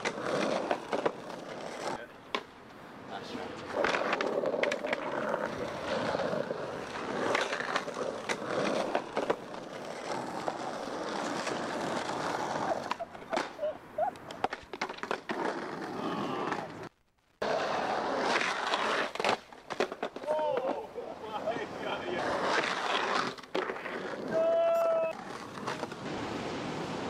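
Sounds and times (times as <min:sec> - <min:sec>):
skateboard wheels rolling on asphalt: 0:00.0 - 0:27.0.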